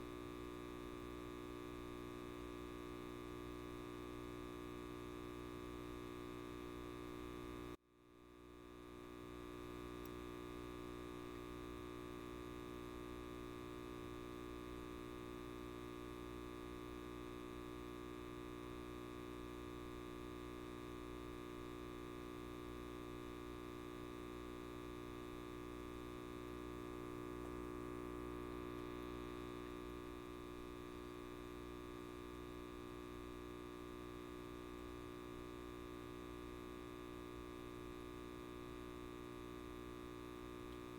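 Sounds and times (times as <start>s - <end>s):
light bulb buzzing: 0.0s - 40.9s.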